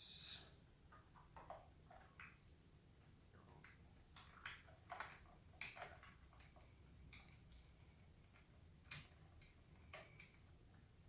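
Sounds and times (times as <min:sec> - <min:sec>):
faint small clicks and ticks: 0:00.8 - 0:11.0.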